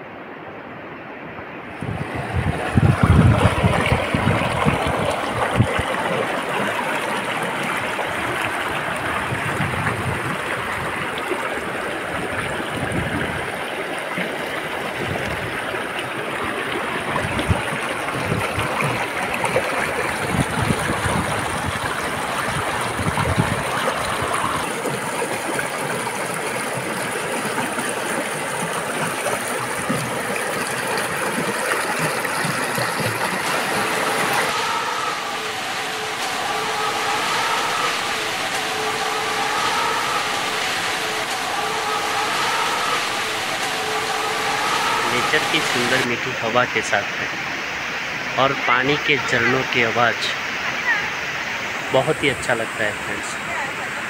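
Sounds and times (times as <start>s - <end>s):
stream rushing over rocks: 1.4s - 54.0s.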